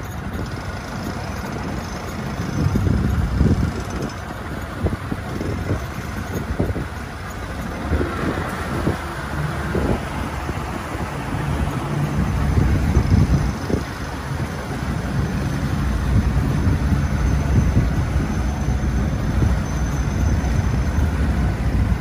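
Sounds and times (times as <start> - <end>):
outboard motors droning: 0.0 - 22.0
wind on microphone: 0.0 - 22.0.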